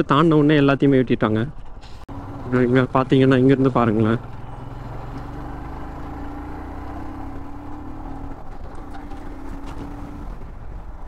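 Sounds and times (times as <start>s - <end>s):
motorcycle engine running: 2.1s - 11.0s.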